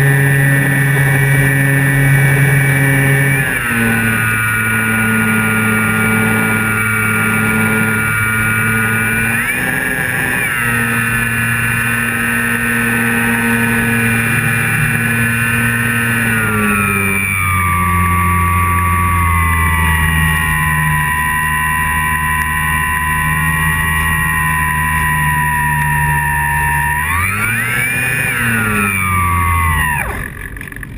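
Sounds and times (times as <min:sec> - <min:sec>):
electric motor and propeller whine: 0:00.0 - 0:30.9.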